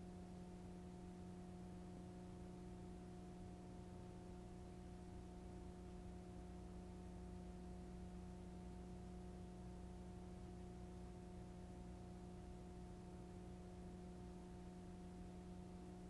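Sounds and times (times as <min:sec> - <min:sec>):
faint hum with hiss: 0:00.0 - 0:16.0.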